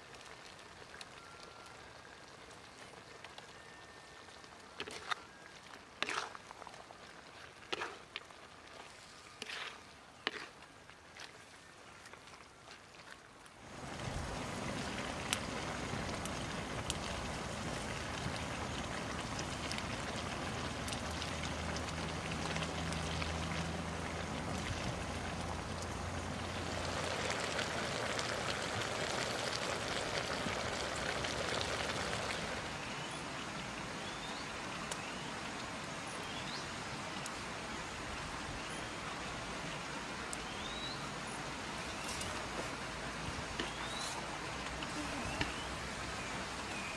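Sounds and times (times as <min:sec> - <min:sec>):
wood fire crackles: 0:00.0 - 0:46.9.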